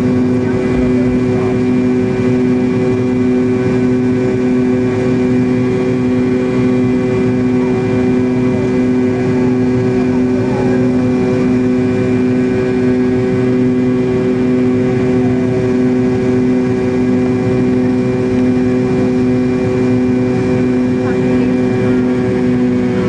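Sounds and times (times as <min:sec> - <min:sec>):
jet engine drone: 0:00.0 - 0:23.0.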